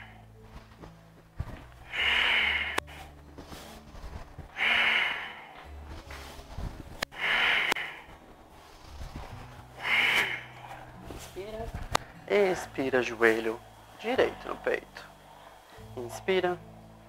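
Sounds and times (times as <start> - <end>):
person breathing forcefully: 0.0 - 12.3, 13.4 - 16.0.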